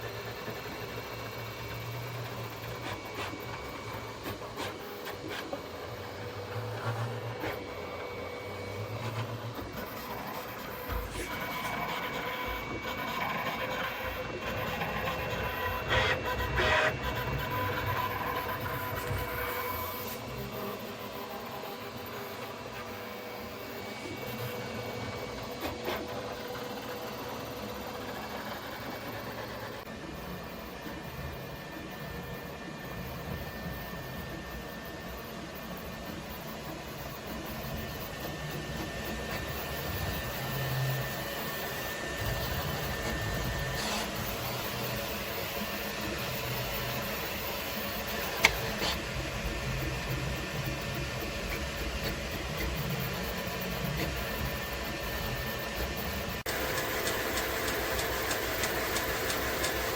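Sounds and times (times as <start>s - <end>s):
printer motors and fans whirring: 0.0s - 59.9s.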